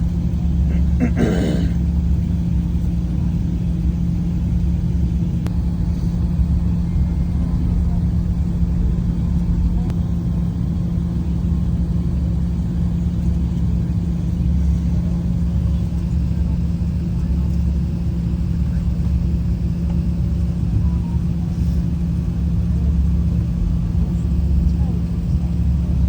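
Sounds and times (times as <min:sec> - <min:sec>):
airliner engines rumbling: 0:00.0 - 0:26.0
constant low hum: 0:00.0 - 0:26.0.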